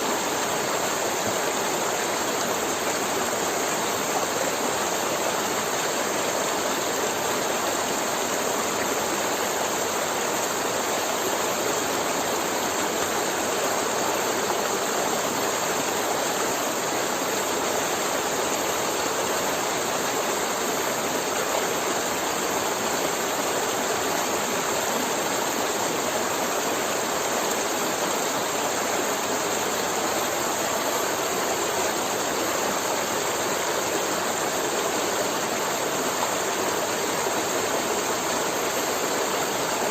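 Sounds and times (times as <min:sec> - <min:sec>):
river flowing and babbling: 0:00.0 - 0:39.9.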